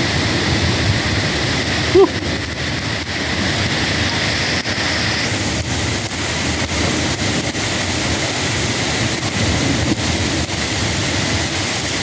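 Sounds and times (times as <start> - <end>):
heavy rain downpour: 0.0 - 12.0.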